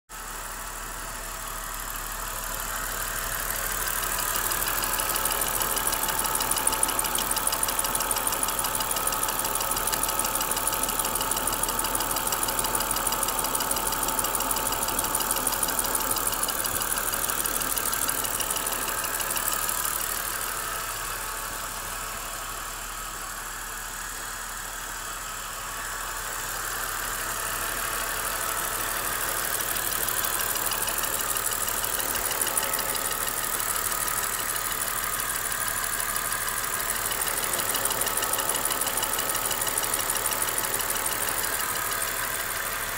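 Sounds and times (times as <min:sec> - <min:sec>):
engine running with ticking knock: 0:00.2 - 0:42.9.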